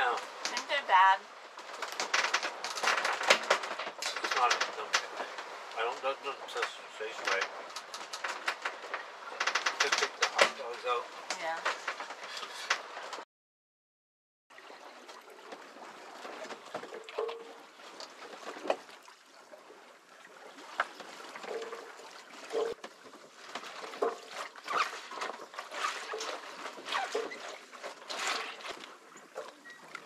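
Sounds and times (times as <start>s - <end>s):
water splashing against boat hull: 0.0s - 13.2s, 14.6s - 30.0s.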